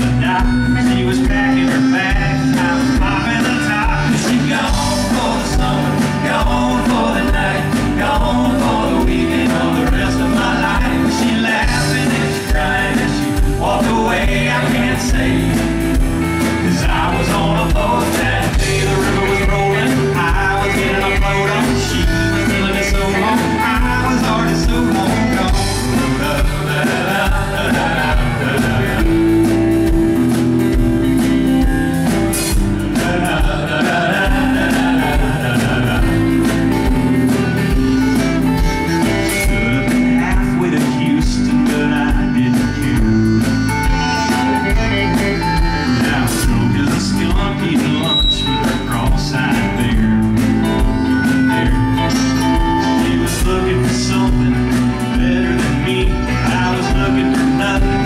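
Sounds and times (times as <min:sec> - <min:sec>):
man singing: 0:00.0 - 0:29.8, 0:32.8 - 0:58.0
country-rock band playing: 0:00.0 - 0:58.0.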